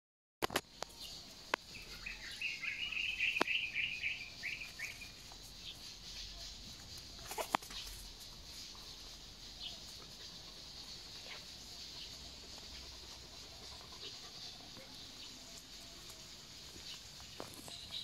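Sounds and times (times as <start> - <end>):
faint high hiss: 0.6 - 18.0
bird chirping warble: 0.9 - 18.0.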